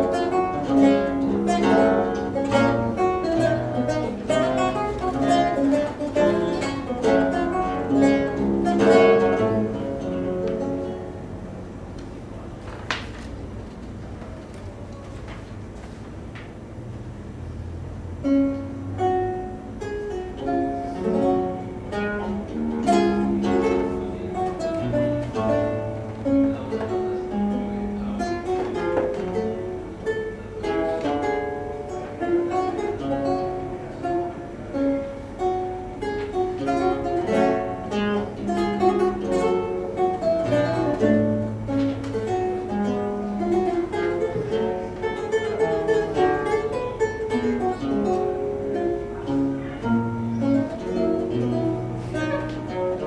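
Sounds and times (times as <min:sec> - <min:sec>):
solo plucked lute piece: 0:00.0 - 0:53.0.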